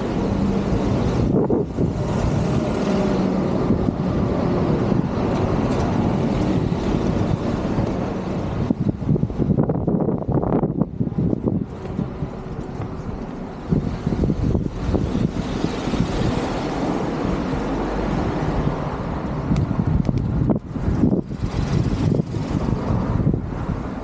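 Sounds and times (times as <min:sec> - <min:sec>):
vehicle tyre and engine noise: 0:00.0 - 0:24.0
wind buffeting microphone: 0:00.0 - 0:24.0.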